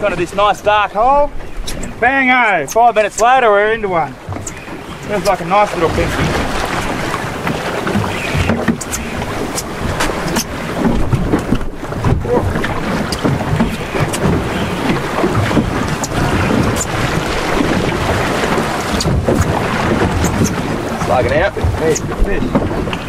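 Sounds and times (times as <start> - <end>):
choppy water washing around boat: 0.0 - 23.0
wind buffeting microphone: 0.0 - 23.0.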